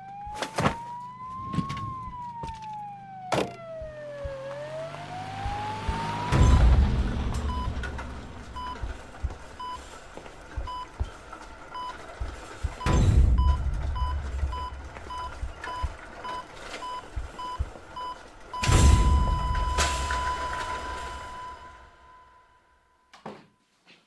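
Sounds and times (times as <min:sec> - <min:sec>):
heart monitor beeping: 0:01.5 - 0:23.2.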